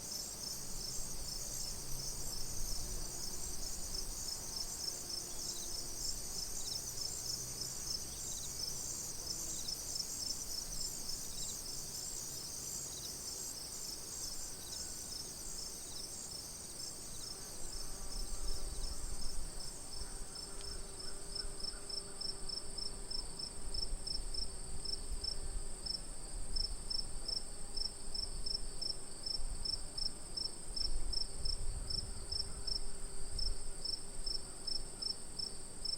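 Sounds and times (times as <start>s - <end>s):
cricket chorus: 0.0s - 35.9s.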